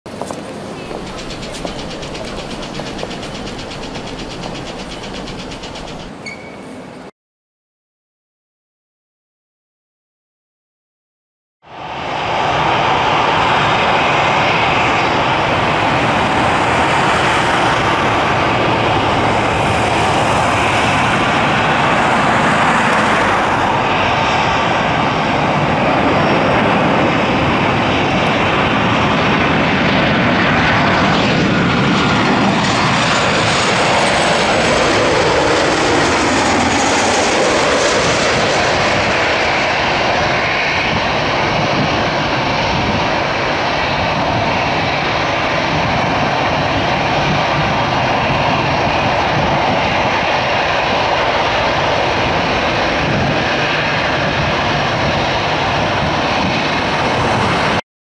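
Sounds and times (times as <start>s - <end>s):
jet airliner landing: 0.1s - 7.1s, 11.7s - 57.8s.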